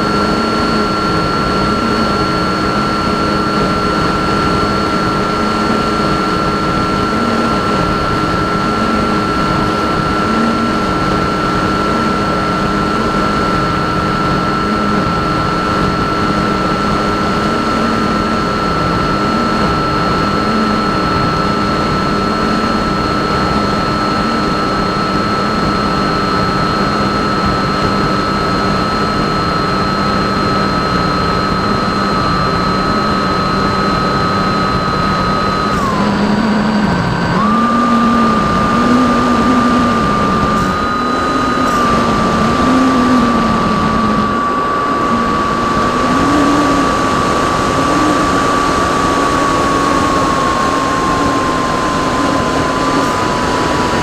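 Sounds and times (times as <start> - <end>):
model plane motor whining: 0.0 - 54.0.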